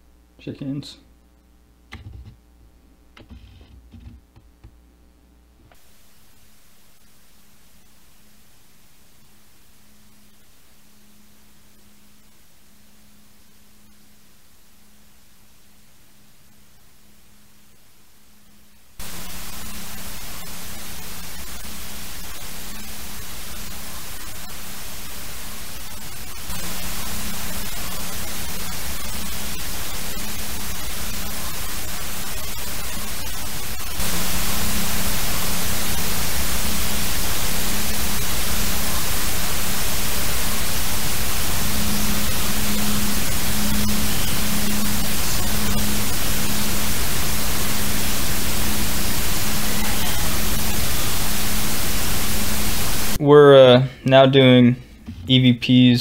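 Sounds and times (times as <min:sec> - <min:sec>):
low electrical hum: 0:00.0 - 0:56.0
static hiss: 0:00.0 - 0:56.0.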